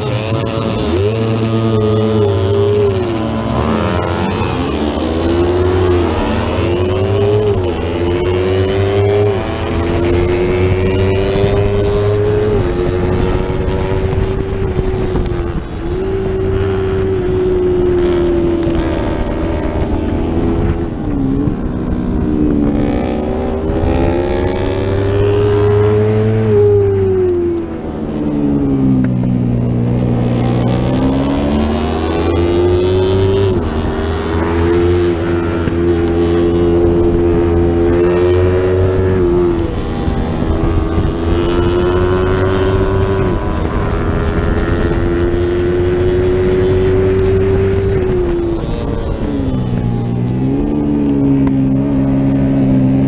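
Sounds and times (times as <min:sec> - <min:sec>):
racing motorcycle engine revving: 0:00.0 - 0:53.0.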